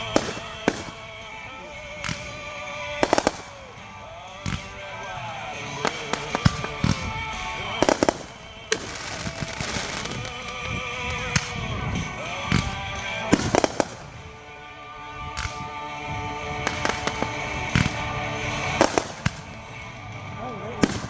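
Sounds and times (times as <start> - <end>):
fireworks bangs: 0.0 - 21.0
music with singing: 0.0 - 21.0.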